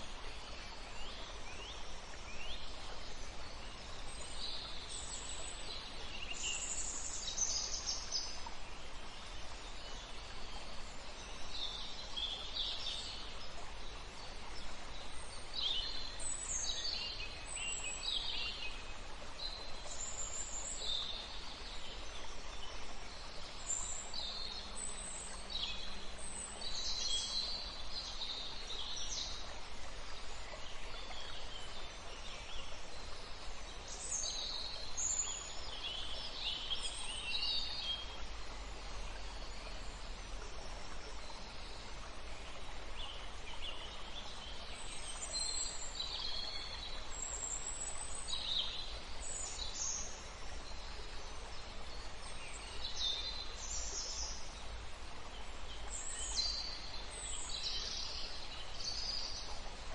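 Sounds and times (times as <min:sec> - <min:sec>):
wild birds chirping and trilling: 0:00.0 - 0:59.9.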